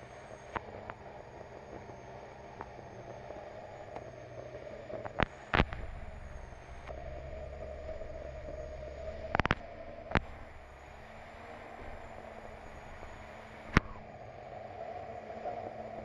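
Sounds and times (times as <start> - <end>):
turbine engine humming with whine: 0.0 - 16.0.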